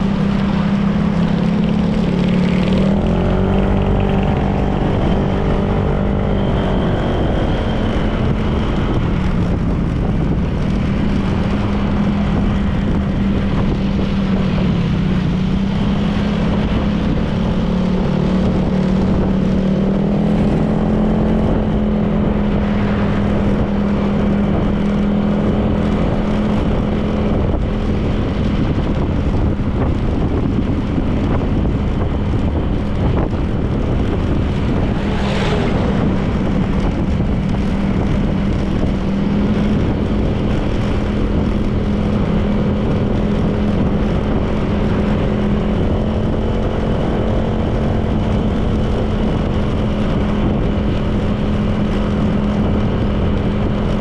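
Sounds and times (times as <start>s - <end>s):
scooter engine running: 0.0s - 54.0s
wind and road noise: 0.0s - 54.0s.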